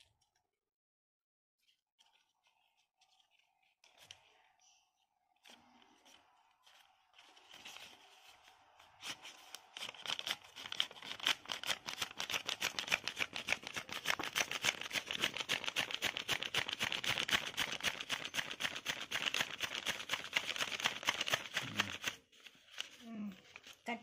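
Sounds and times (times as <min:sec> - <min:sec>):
paper folding and crinkling: 0:01.6 - 0:04.6, 0:05.3 - 0:24.0.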